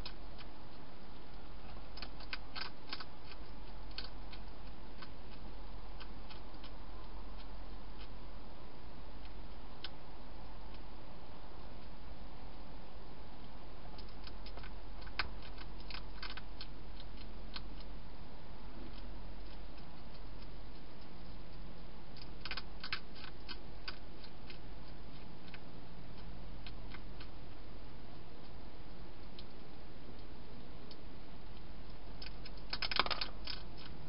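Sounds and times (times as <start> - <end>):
hedgehog crunching dry food: 0.0 - 11.1, 13.4 - 18.2, 18.8 - 34.0
steady hum and hiss: 0.0 - 34.0.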